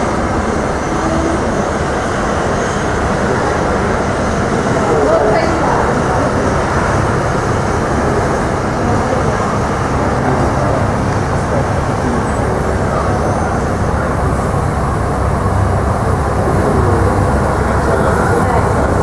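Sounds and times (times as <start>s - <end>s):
jet engines at taxi power: 0.0s - 19.0s.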